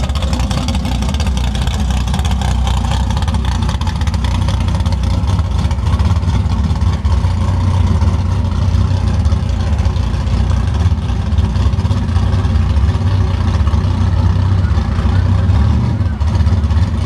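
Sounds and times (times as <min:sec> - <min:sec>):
car engine driving off: 0:00.0 - 0:17.0.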